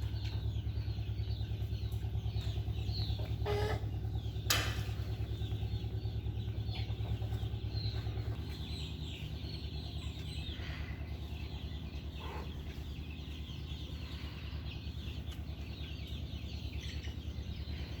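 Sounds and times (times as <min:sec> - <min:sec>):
chickens clucking: 0:00.0 - 0:18.0
steady low hum: 0:00.0 - 0:18.0.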